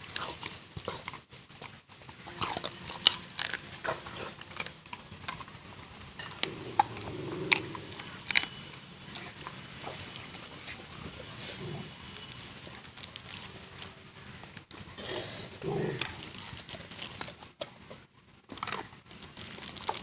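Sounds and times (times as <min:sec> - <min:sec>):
dog chewing food: 0:00.0 - 0:20.0.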